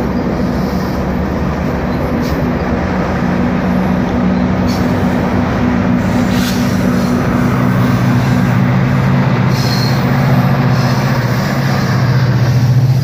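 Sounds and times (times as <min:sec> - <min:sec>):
diesel train engine drone: 0:00.0 - 0:13.0
wheels rumbling on track: 0:00.0 - 0:13.0.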